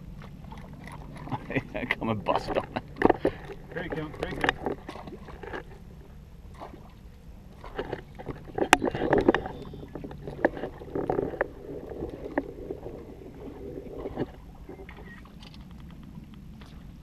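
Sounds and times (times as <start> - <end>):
knocks and thumps on boat: 0.0 - 17.0
steady low rumble: 0.0 - 17.0
water lapping against boat hull: 0.0 - 17.0.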